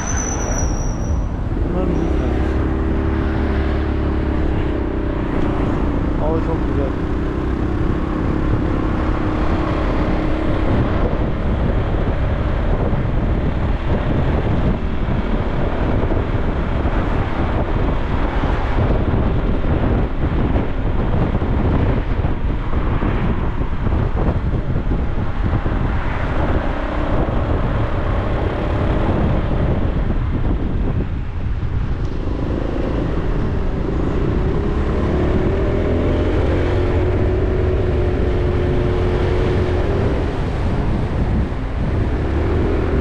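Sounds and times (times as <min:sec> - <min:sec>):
road noise: 0:00.0 - 0:43.0
vehicle engine rumble: 0:00.0 - 0:43.0
wind buffeting microphone: 0:00.0 - 0:43.0.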